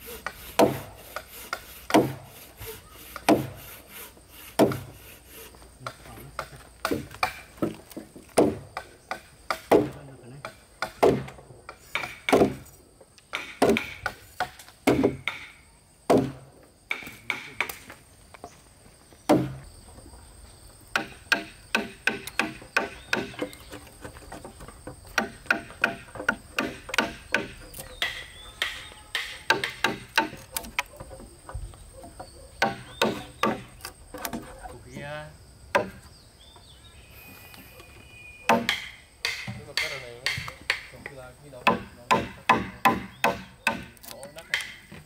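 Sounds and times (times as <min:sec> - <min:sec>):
tool striking wood: 0:00.2 - 0:02.4, 0:03.1 - 0:03.7, 0:04.4 - 0:05.0, 0:05.8 - 0:12.7, 0:13.3 - 0:18.0, 0:19.3 - 0:19.6, 0:20.9 - 0:35.1, 0:35.7 - 0:36.1, 0:38.5 - 0:45.0.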